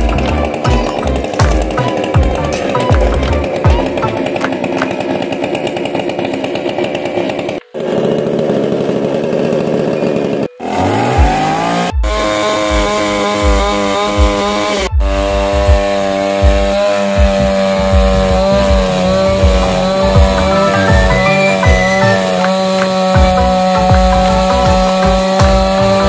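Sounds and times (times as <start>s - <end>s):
chainsaw cutting logs: 0.0s - 26.0s.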